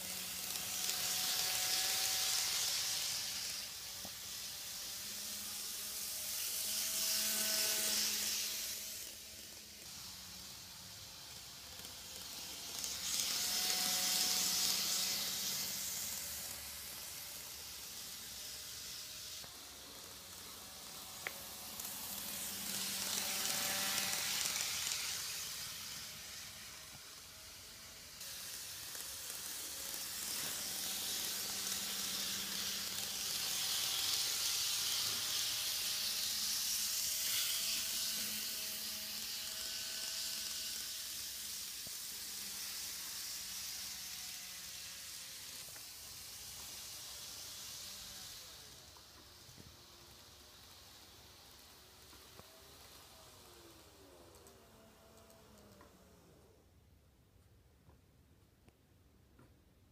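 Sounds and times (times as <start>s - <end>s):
model train wheels hissing on rails: 0.0s - 56.8s
faint motor whine: 0.0s - 58.0s.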